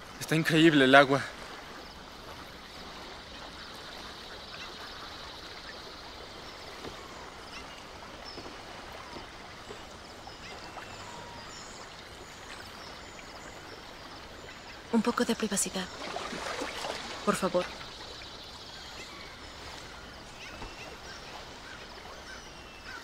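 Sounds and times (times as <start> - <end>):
running water hiss: 0.0 - 23.0
birds chirping and calling: 0.4 - 23.0.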